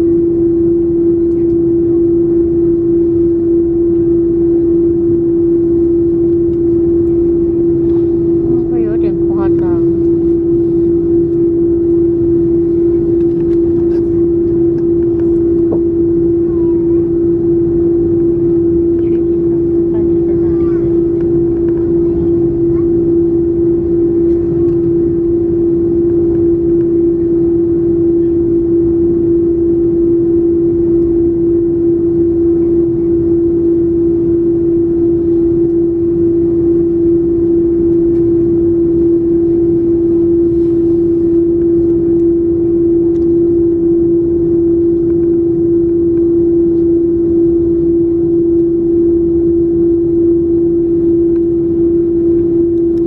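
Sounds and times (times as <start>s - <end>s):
airplane cabin engine drone: 0.0s - 53.0s
low rumble: 0.0s - 53.0s.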